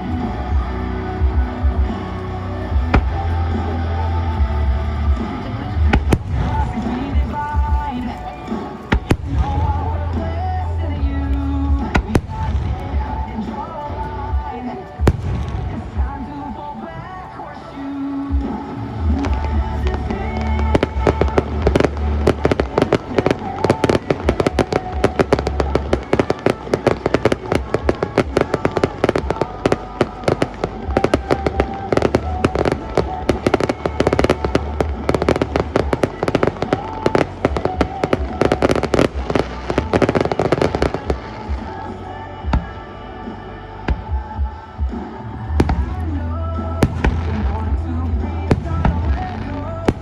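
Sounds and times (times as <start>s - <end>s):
fireworks bangs and crackles: 0.0s - 50.0s
loud music with deep bass: 0.0s - 50.0s.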